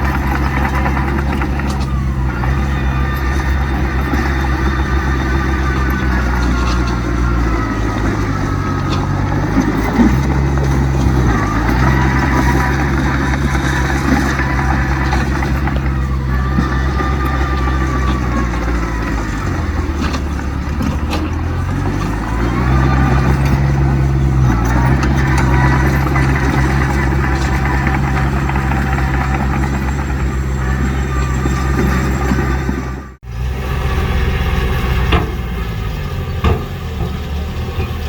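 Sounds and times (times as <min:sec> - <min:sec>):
heavy diesel engine revving: 0:00.0 - 0:38.0.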